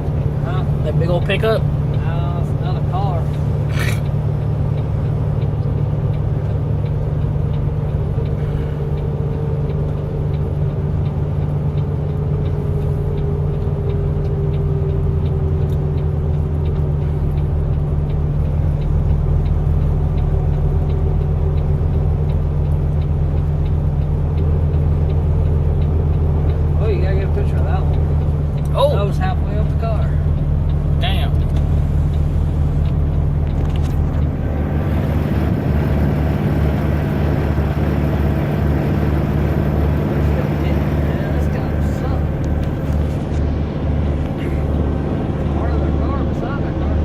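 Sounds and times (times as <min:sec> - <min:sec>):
vehicle engine and road drone: 0:00.0 - 0:47.0.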